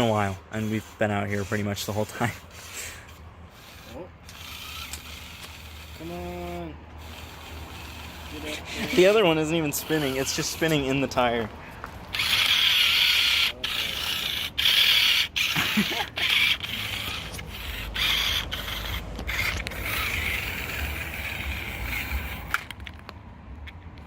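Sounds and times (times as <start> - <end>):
toy car electric motor whirring: 0.0 - 23.1.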